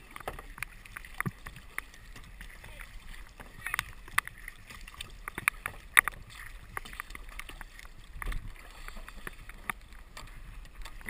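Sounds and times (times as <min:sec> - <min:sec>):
paddle splashes and drips: 0:00.0 - 0:11.0.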